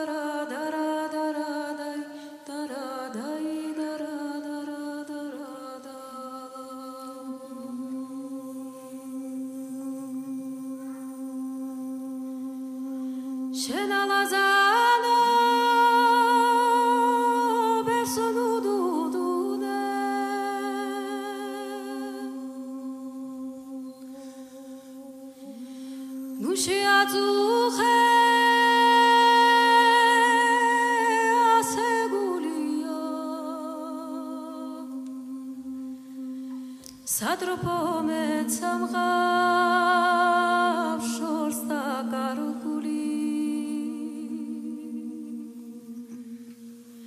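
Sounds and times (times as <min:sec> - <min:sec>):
a cappella voices singing: 0:00.0 - 0:47.0.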